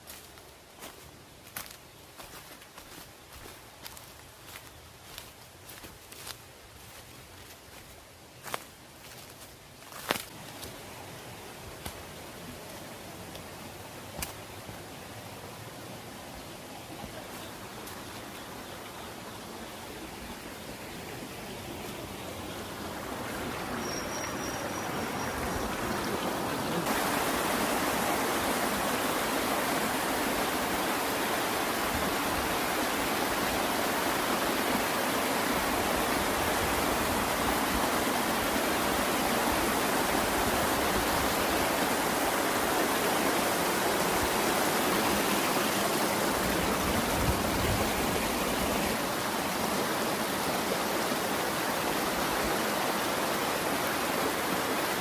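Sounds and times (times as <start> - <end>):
waterfall rushing: 10.4 - 55.0.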